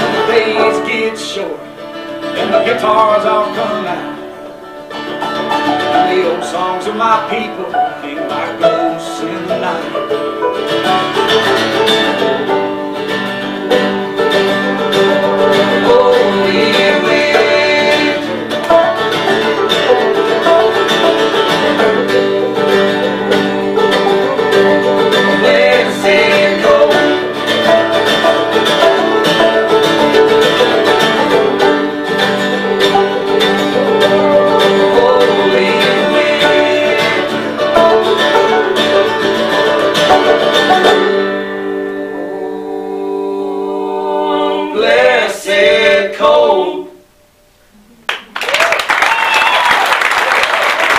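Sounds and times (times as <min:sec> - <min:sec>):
plucked strings: 0:00.0 - 0:43.7
acoustic band playing: 0:00.0 - 0:48.4.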